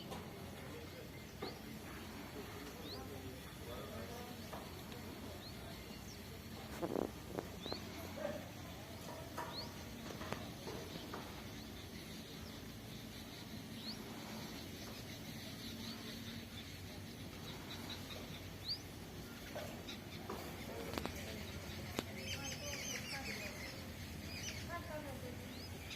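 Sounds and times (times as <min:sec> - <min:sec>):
birds chirping: 0:00.0 - 0:25.9
faint outdoor background: 0:00.0 - 0:25.9.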